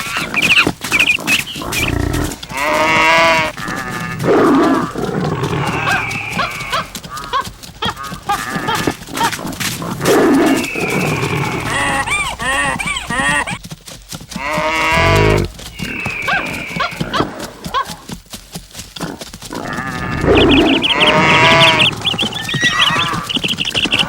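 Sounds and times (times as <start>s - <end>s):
animal calls overlapping: 0.0s - 13.6s, 14.3s - 18.1s, 19.0s - 24.0s
hoofbeats: 0.0s - 24.0s.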